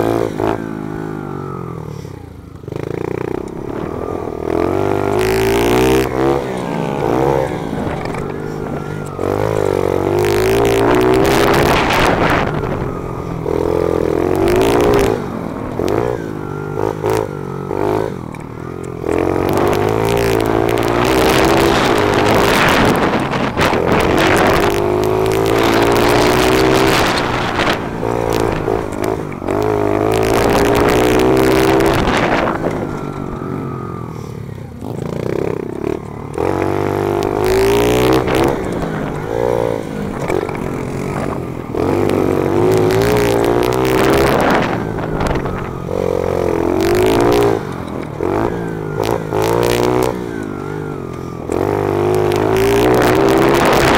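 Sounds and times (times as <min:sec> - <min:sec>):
pit bike engine revving: 0:00.0 - 0:53.9
wind rushing over microphone: 0:02.7 - 0:34.1, 0:35.2 - 0:53.9.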